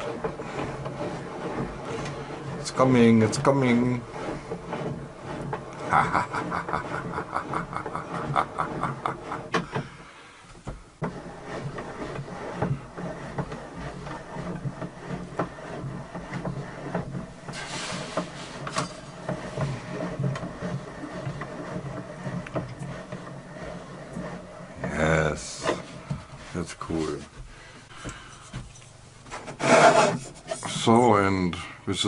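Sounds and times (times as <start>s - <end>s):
rhythmic mechanism clicking: 0.0s - 10.0s, 10.6s - 26.5s
wood rubbing on wood: 0.0s - 31.2s.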